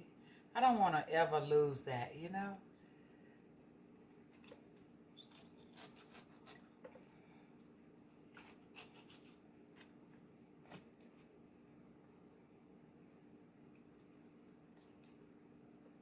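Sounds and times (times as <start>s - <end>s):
low steady hum: 0.0s - 16.0s
soft clicks and wet handling noises: 2.6s - 16.0s.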